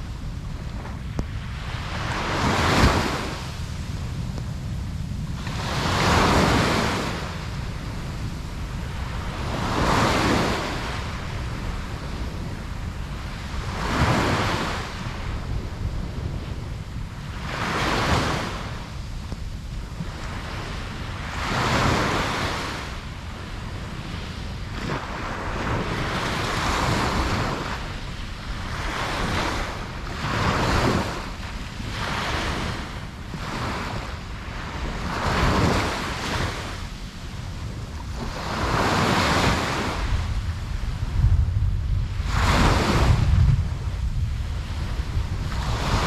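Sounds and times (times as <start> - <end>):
ocean waves breaking on beach: 0.0 - 46.0
wind rumbling on microphone: 0.0 - 46.0.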